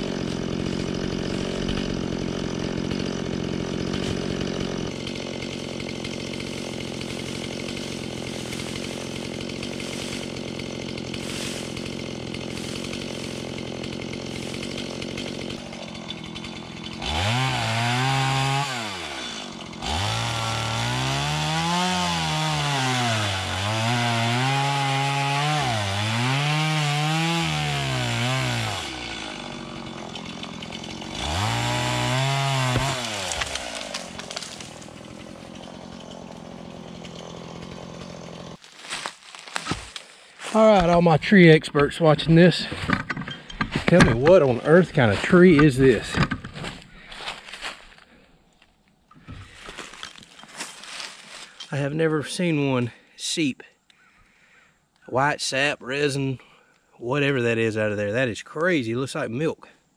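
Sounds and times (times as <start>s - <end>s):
chainsaw idling and revving: 0.0s - 48.0s, 49.2s - 53.0s.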